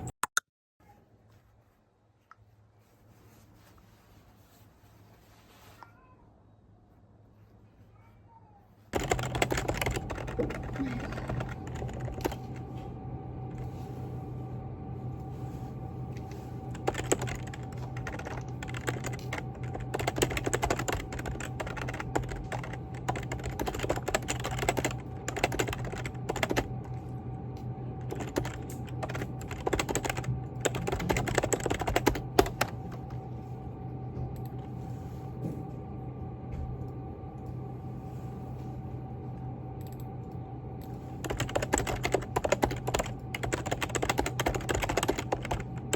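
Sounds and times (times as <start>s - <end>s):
steady low hum: 8.9s - 45.9s.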